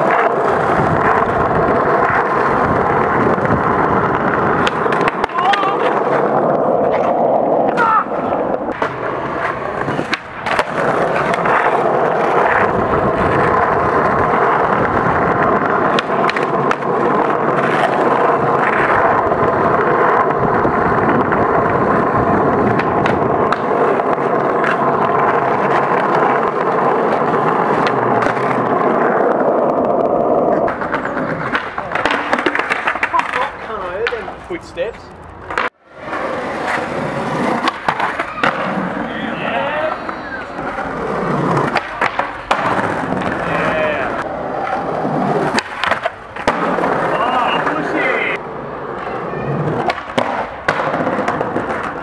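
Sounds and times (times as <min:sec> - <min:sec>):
skateboard clicks and knocks: 0:00.0 - 0:52.0
skateboard wheels rolling on paving: 0:00.0 - 0:52.0.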